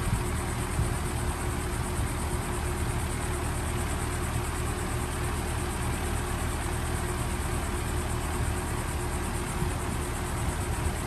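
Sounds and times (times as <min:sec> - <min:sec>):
heat pump unit humming: 0:00.0 - 0:11.0.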